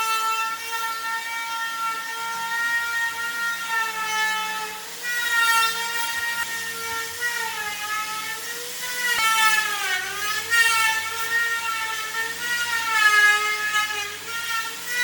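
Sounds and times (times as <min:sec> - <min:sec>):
power tool motor whining: 0:00.0 - 0:15.0.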